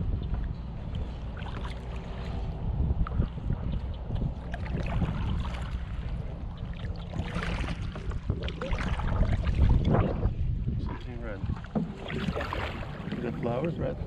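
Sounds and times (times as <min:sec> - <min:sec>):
low rumble: 0:00.0 - 0:14.0
water splashing against hull: 0:00.0 - 0:14.0.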